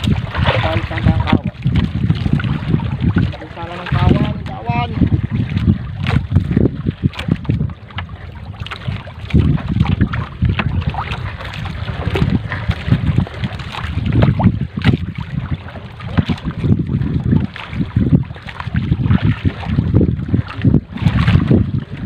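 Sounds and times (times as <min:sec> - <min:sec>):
water splashing and dripping: 0:00.0 - 0:22.0
wind buffeting microphone: 0:00.0 - 0:22.0.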